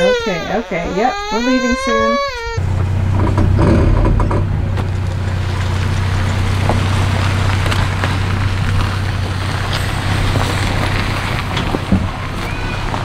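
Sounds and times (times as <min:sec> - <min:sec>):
tyres crunching over gravel: 0:00.0 - 0:13.0
truck engine low hum: 0:00.1 - 0:13.0.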